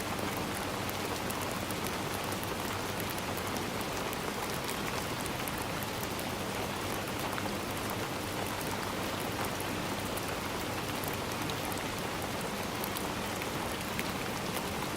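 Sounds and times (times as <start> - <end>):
rain falling through trees: 0.0 - 14.9.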